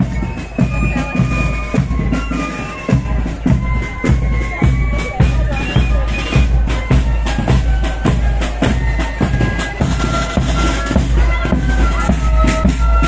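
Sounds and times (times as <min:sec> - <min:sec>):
flutes playing a tune: 0:00.0 - 0:13.0
side drums and bass drum: 0:00.0 - 0:13.0.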